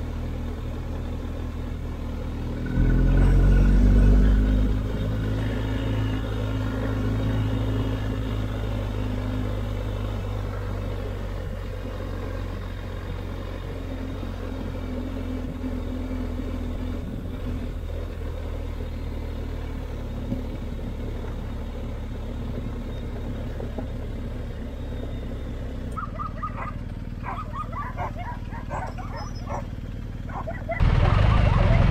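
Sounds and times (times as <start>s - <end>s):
motorcycle engine droning: 0.0s - 31.9s.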